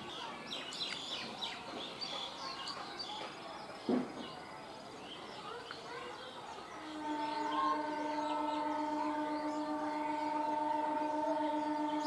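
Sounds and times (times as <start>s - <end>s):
birds chirping: 0.0s - 12.0s
railway station background noise: 0.0s - 12.0s.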